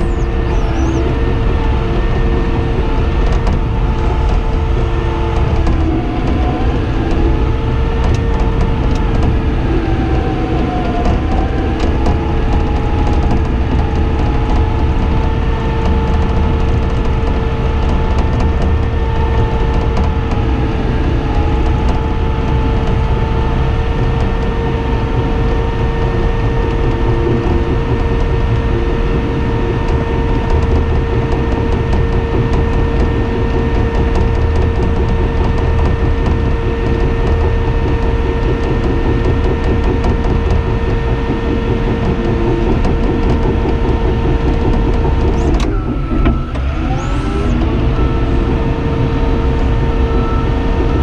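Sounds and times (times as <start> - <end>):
diesel engine whining under load: 0.0 - 51.0.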